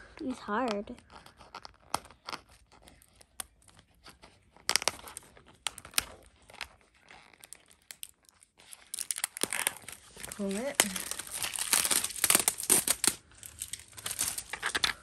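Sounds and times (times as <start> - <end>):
plastic wrap crinkling and tearing: 0.2 - 15.0
plastic wrap ripping: 0.7 - 15.0.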